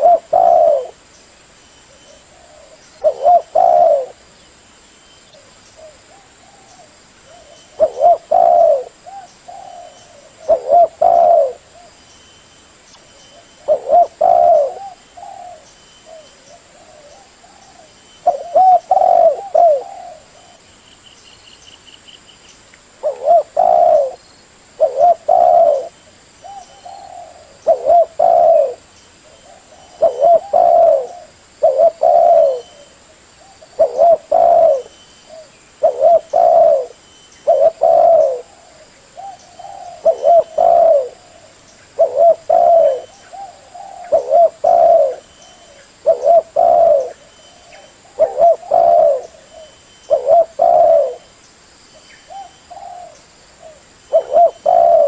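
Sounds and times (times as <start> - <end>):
dove cooing: 0.0 - 1.0, 1.9 - 4.3, 5.4 - 12.0, 13.3 - 20.6, 23.0 - 24.2, 24.8 - 51.4, 52.2 - 55.0.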